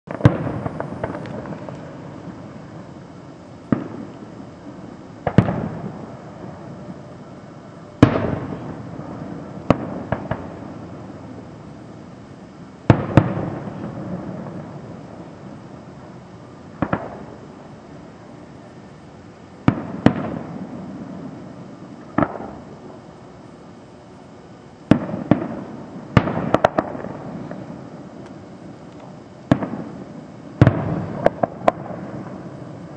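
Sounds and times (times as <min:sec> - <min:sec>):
fireworks bursting with echo: 0:00.1 - 0:02.9, 0:03.7 - 0:11.8, 0:12.8 - 0:17.5, 0:19.6 - 0:23.0, 0:24.8 - 0:32.9.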